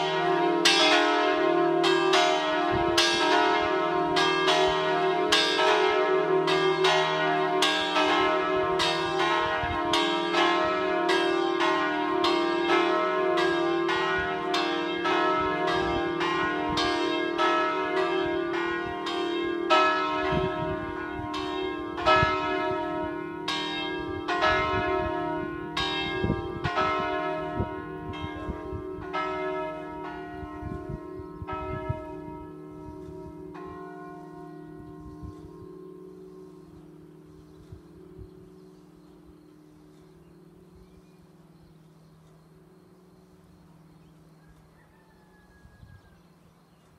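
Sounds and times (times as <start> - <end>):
church bells pealing: 0.0 - 44.6.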